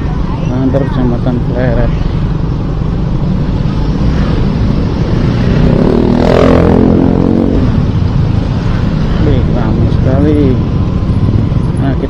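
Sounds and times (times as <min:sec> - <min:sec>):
wind rumble: 0:00.0 - 0:12.0
motorcycle engine: 0:01.2 - 0:12.0.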